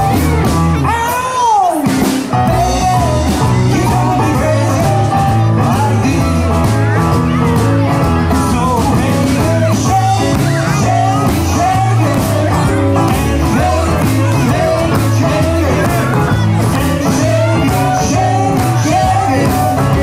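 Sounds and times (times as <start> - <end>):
live rock band playing: 0.0 - 20.0
men singing lead vocals: 2.5 - 6.9, 8.3 - 20.0.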